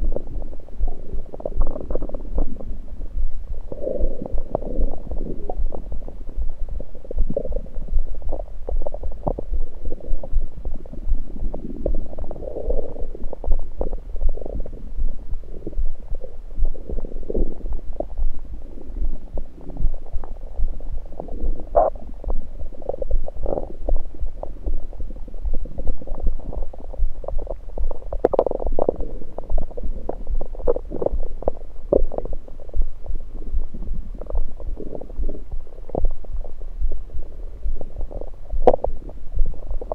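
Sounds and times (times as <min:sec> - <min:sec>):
steady low hum: 0:00.0 - 0:39.9
stomach gurgles and pops: 0:00.0 - 0:39.9.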